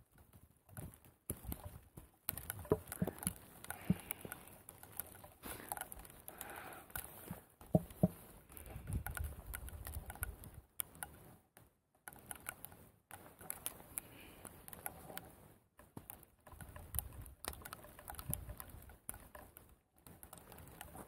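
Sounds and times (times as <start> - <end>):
light ticks and crackles: 0.0 - 21.0.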